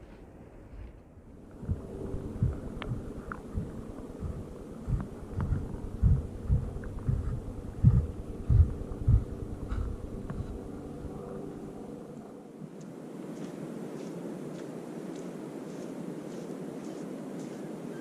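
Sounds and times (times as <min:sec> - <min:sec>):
footsteps on sand: 0:00.0 - 0:10.6, 0:12.7 - 0:18.0
faint steady hum: 0:00.0 - 0:18.0.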